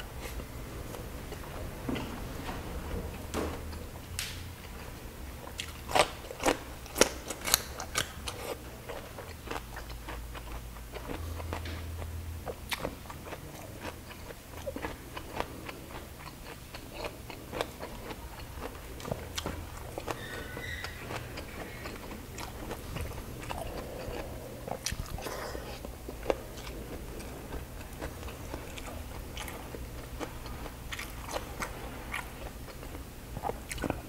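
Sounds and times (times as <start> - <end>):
person chewing food: 5.4 - 34.0.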